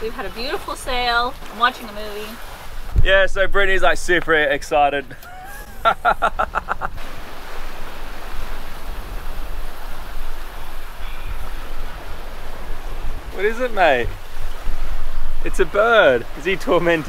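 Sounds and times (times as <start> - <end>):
sea water rushing around hull: 0.0 - 17.0.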